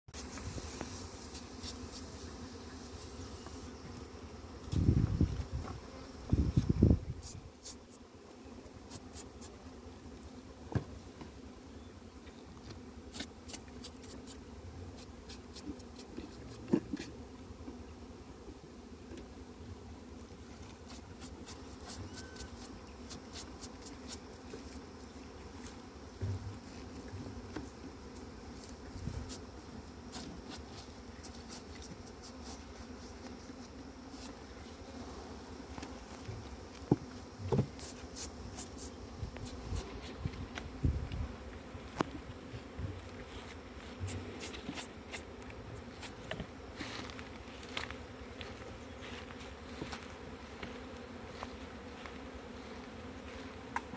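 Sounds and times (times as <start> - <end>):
honeybees buzzing: 0.1 - 53.9.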